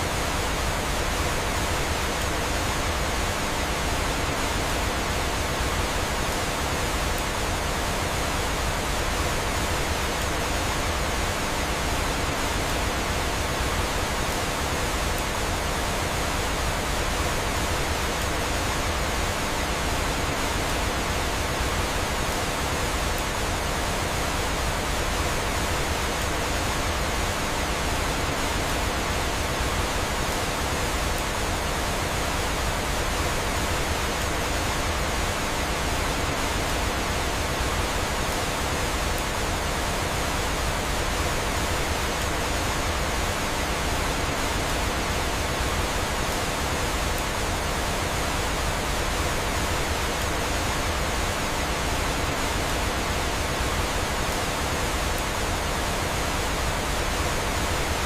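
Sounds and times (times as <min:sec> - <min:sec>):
rush of flowing water: 0:00.0 - 0:58.0.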